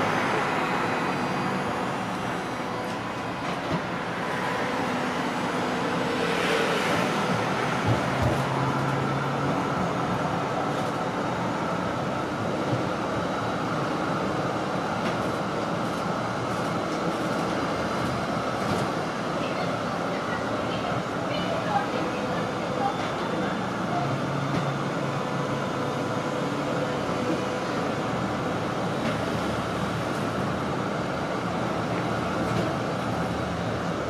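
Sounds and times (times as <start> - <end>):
tram wheels rumbling on rail: 0.0 - 34.0.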